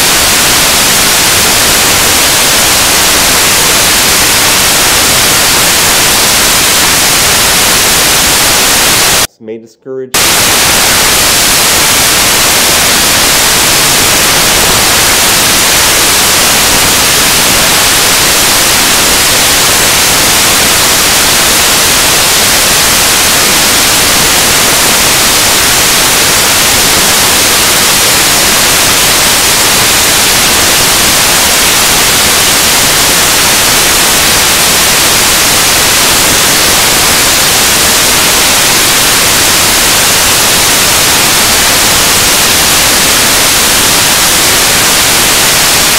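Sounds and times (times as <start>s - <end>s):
loud static hiss: 0.0s - 9.4s, 10.1s - 45.9s.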